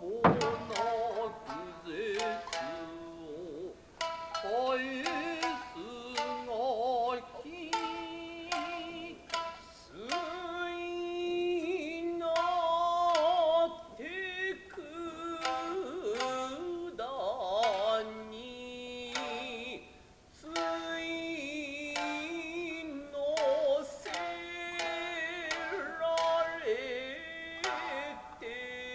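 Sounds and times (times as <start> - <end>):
person singing wavering phrases: 0.0 - 28.9
plucked shamisen notes: 0.0 - 28.9.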